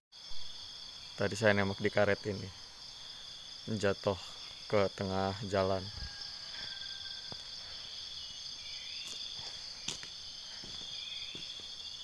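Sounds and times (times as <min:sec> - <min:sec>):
insects droning: 0:00.2 - 0:12.0.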